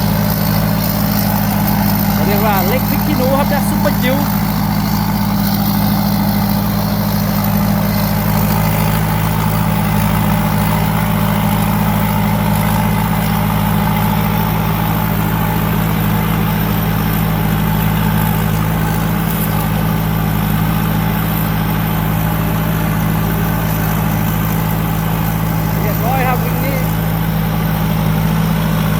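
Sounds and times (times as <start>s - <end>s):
combine harvester engine running: 0.0s - 28.9s.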